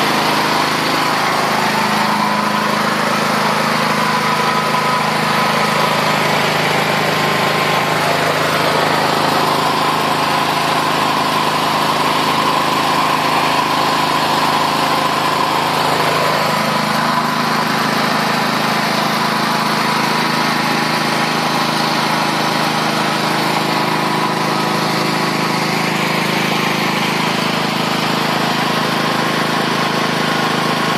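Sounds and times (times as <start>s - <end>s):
petrol generator running: 0.0s - 30.9s.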